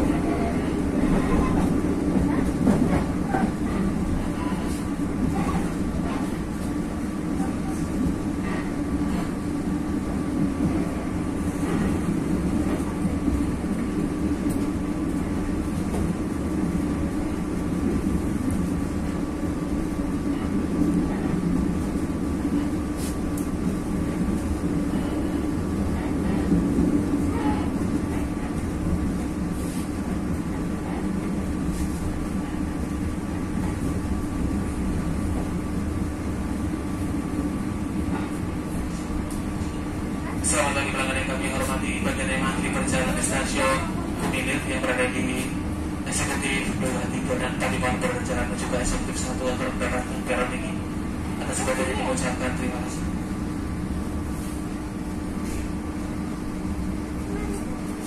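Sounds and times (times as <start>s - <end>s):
passenger train rumbling: 0.0s - 58.0s.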